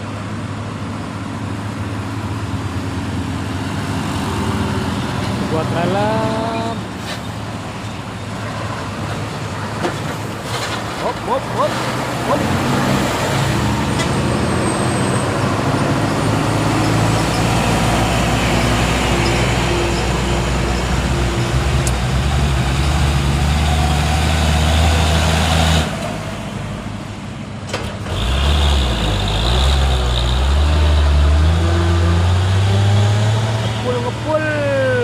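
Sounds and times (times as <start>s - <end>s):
truck engine under load: 0.0s - 35.0s.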